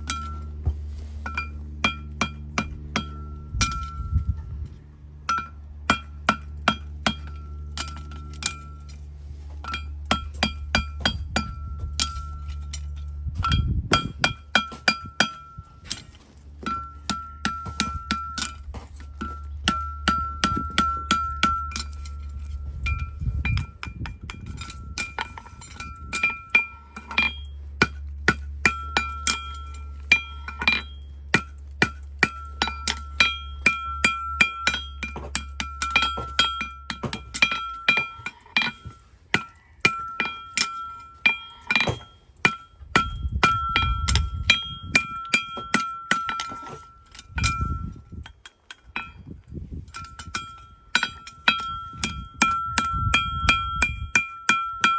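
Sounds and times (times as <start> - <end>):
low hum: 0.0 - 54.9.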